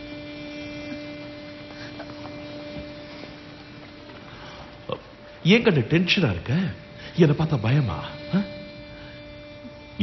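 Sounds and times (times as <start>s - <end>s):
low held drone: 0.0s - 10.0s.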